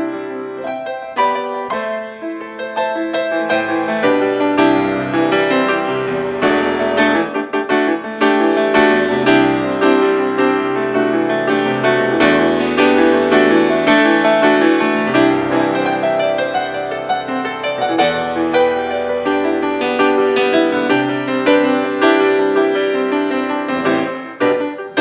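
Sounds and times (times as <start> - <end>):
solo piano: 0.0 - 25.0.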